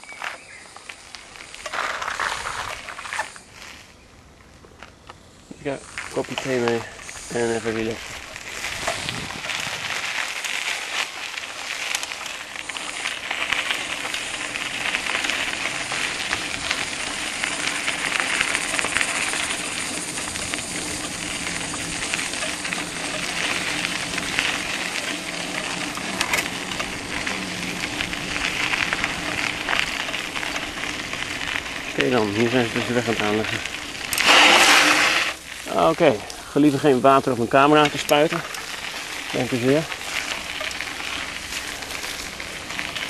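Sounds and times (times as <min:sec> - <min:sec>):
wind and tyre noise: 0:00.0 - 0:43.0
faint motorcycle engine hum: 0:00.2 - 0:43.0.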